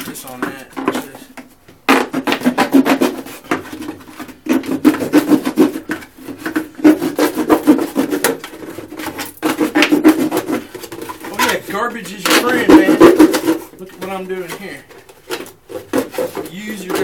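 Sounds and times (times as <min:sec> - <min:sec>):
plastic jug being cut: 0:01.9 - 0:17.0.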